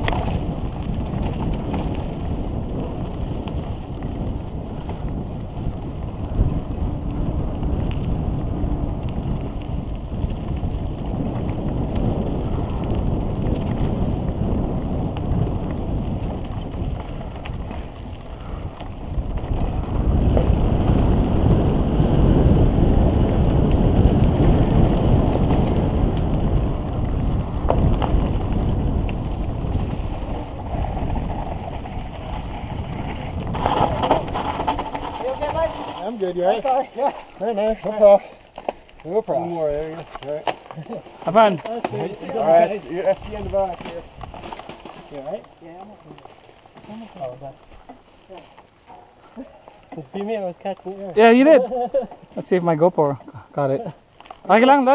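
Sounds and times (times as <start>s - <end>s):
bike rattles and clicks: 0.0s - 54.9s
bike tyres rumbling on dirt: 0.0s - 54.9s
wind buffeting microphone: 0.0s - 54.9s.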